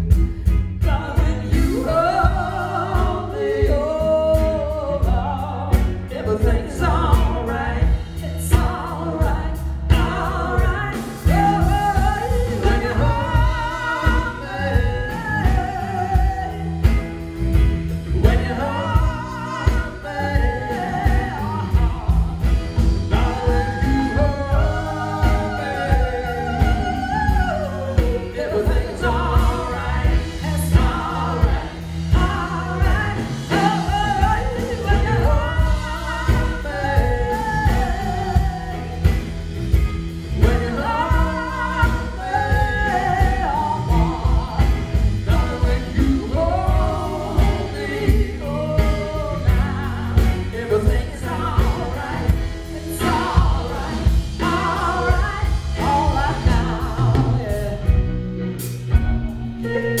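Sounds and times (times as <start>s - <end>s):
bass guitar: 0.0s - 60.0s
drums: 0.0s - 60.0s
electric guitars: 0.0s - 60.0s
woman singing lead: 0.0s - 60.0s.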